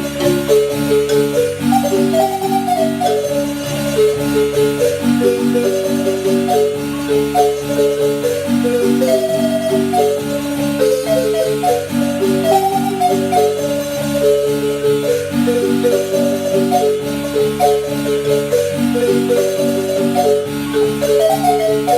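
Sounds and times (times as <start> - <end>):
marimba music: 0.0 - 21.9.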